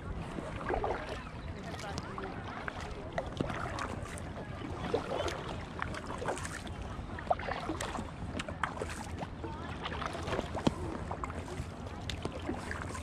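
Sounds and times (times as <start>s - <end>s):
water lapping at hull: 0.0s - 13.0s
water splashing from paddle: 0.0s - 13.0s.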